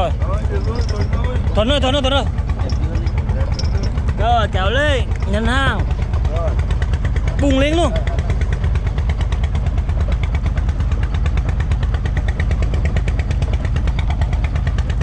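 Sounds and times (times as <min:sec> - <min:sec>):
boat engine knocking: 0:00.0 - 0:15.0.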